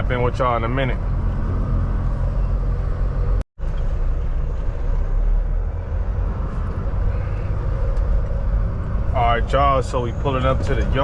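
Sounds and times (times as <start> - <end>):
diesel truck engine running: 0.0 - 11.0
road noise: 0.0 - 11.0.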